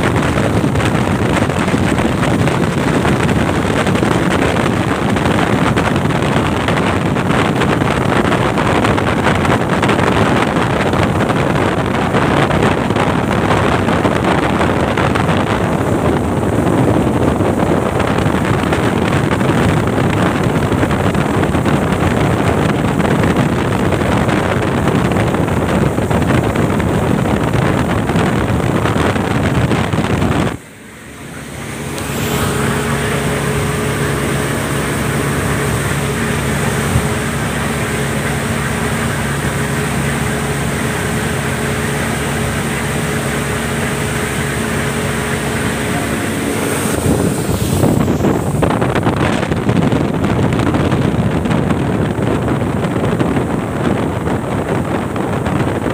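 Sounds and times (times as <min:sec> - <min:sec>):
speedboat engine running: 0:00.0 - 0:55.9
water rushing past hull: 0:00.0 - 0:55.9
wind buffeting microphone: 0:00.0 - 0:55.9.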